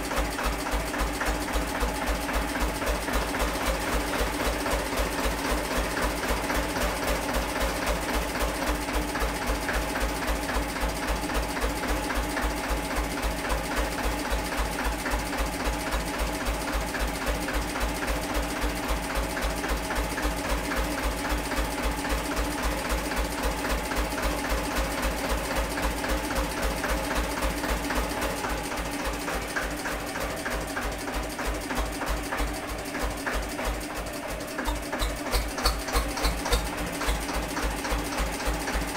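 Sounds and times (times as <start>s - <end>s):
stationary engine thumping: 0.0s - 38.9s.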